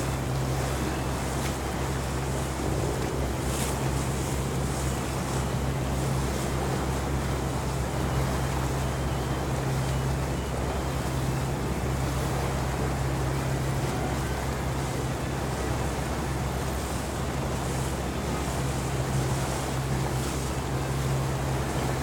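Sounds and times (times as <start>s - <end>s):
boat engine droning: 0.0s - 22.0s
water rushing: 0.0s - 22.0s
wind: 0.0s - 22.0s.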